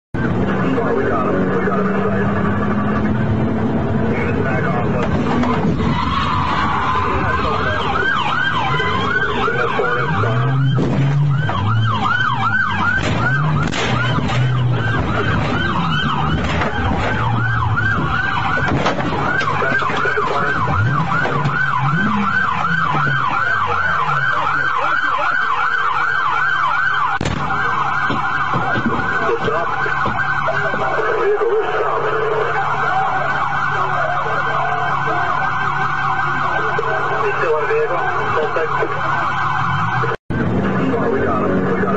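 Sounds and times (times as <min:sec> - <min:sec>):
police siren yelping: 0:00.2 - 0:41.9.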